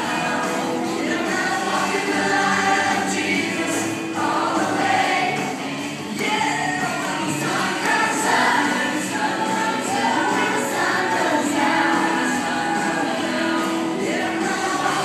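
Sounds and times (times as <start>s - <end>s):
choir singing gospel song: 0.0s - 15.0s.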